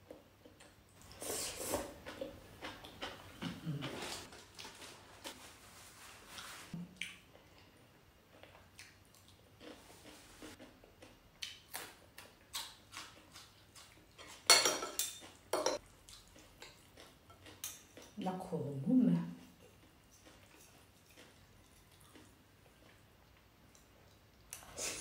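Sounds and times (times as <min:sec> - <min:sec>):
soft chewing: 0:00.0 - 0:05.5, 0:06.3 - 0:14.5, 0:15.1 - 0:18.4, 0:19.1 - 0:25.0.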